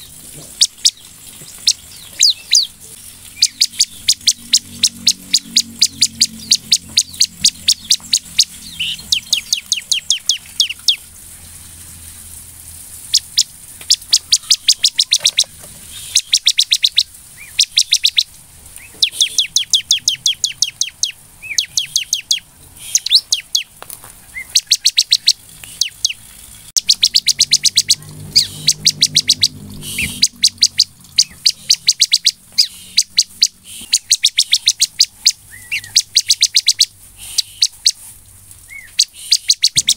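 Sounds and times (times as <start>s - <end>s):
bird singing sharp chipping notes: 0.0s - 11.1s, 13.1s - 23.7s, 24.4s - 26.2s, 26.8s - 37.9s, 38.7s - 39.9s.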